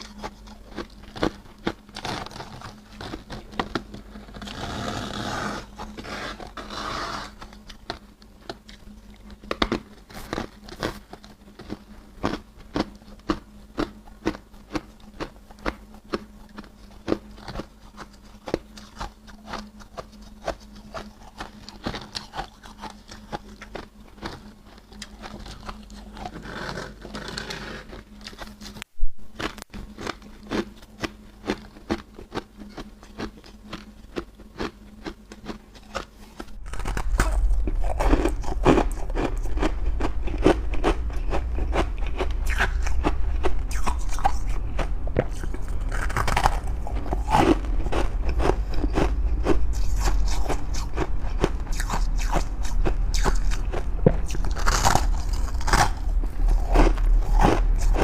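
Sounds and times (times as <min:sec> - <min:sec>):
ice crunching while chewed: 0:00.0 - 0:58.0
low hum: 0:00.0 - 0:58.0.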